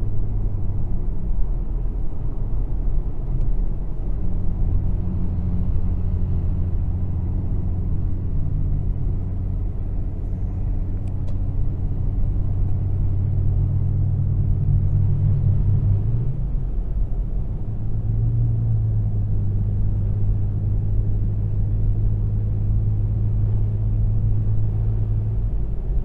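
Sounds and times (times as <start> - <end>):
car engine running low revs: 0.0 - 26.0.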